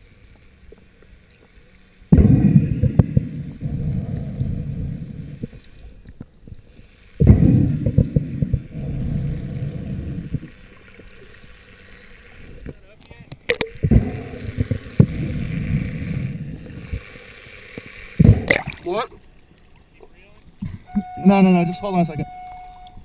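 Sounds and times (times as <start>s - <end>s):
underwater water noise: 0.0s - 23.0s.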